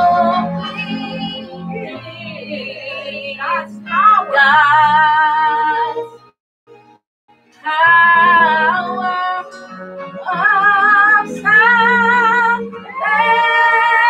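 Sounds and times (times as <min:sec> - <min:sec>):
woman singing gospel: 0:00.0 - 0:05.9, 0:07.6 - 0:09.5, 0:10.2 - 0:14.0.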